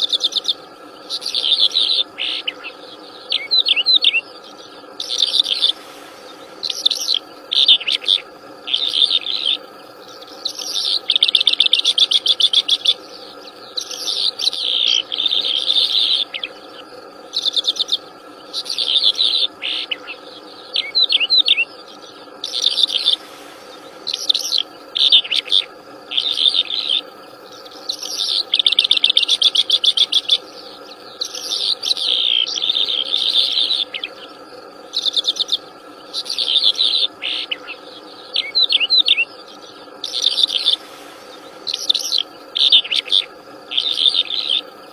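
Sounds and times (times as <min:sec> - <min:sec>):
low background drone: 0:00.0 - 0:44.9
songbird singing trills: 0:00.0 - 0:44.9.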